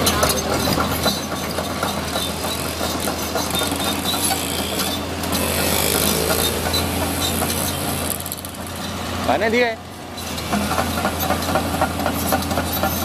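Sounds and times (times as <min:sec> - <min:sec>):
steel tracks clanking on gravel: 0:00.0 - 0:09.0, 0:10.1 - 0:13.0
excavator diesel engine running: 0:00.0 - 0:13.0.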